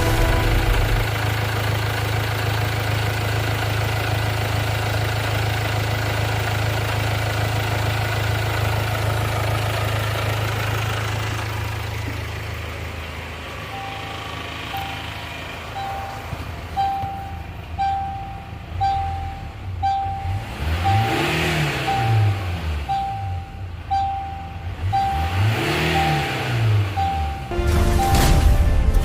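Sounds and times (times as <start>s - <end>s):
diesel engine idling: 0.0s - 28.7s.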